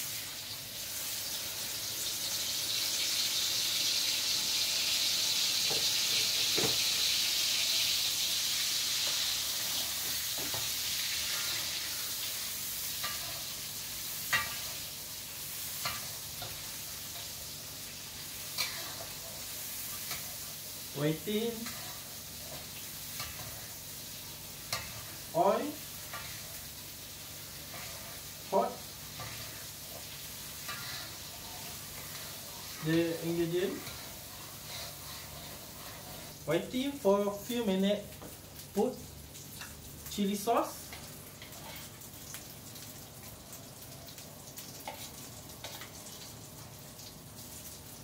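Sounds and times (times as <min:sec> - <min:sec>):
paste sizzling in oil: 0:00.0 - 0:48.0.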